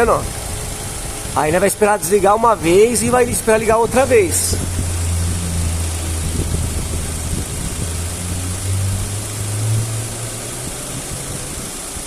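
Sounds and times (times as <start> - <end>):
car engine idling: 0.0 - 12.0
radiator cooling fan hum: 0.0 - 12.0.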